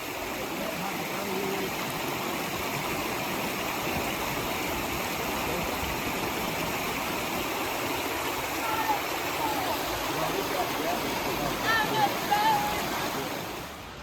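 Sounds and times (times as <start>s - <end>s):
water pouring over waterfall: 0.0s - 13.8s.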